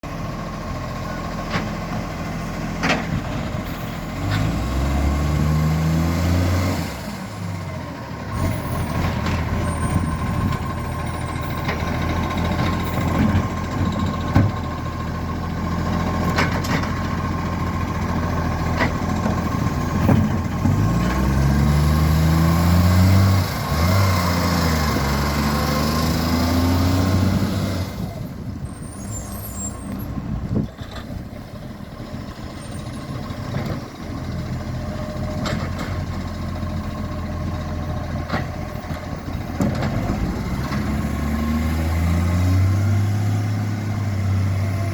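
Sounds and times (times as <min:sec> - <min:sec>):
engine idling and revving: 0:00.0 - 0:44.9.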